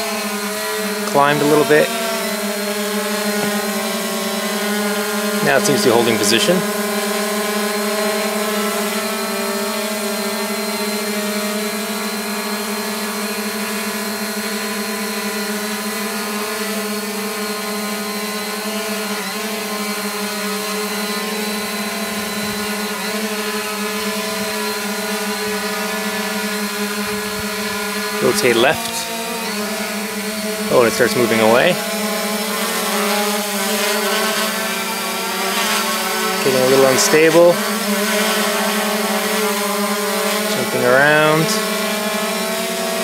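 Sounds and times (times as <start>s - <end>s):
drone motors humming: 0.0s - 43.0s.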